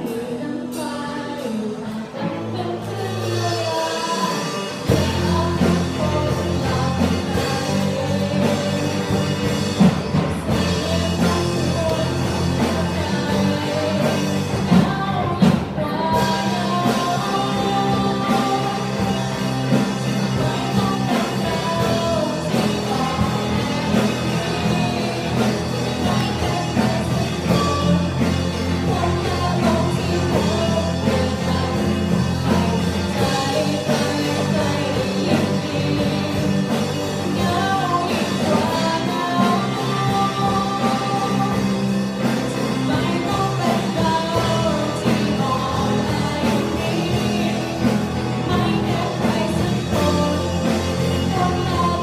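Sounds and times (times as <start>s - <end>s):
girl singing into microphone: 0.0s - 9.6s, 10.4s - 52.0s
amplified electric guitars: 0.0s - 52.0s.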